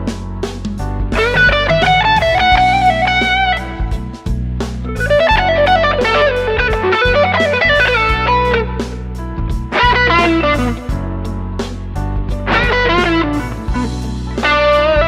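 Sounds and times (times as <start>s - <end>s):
overdriven electric guitar lead: 1.0s - 15.0s.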